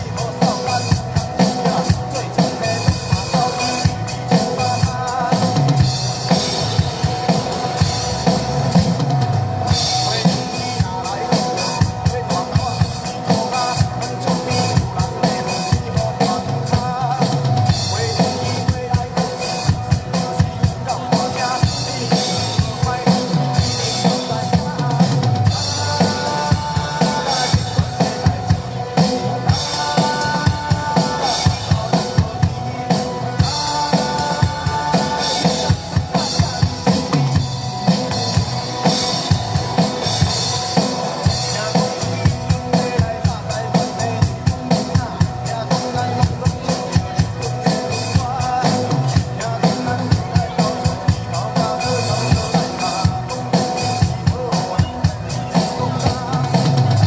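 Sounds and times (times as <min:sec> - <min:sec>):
drum kit steady beat: 0:00.0 - 0:57.0.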